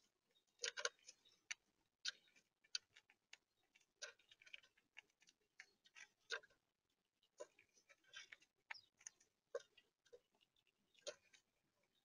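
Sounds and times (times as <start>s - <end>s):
squirrel chewing clicks: 0.0s - 6.6s, 7.2s - 12.0s.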